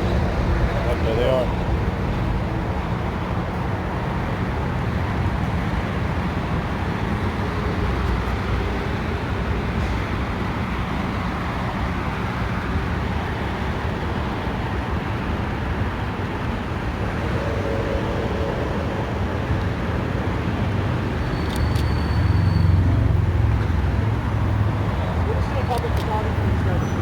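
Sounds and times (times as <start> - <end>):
vehicle and road rumble: 0.0 - 27.0.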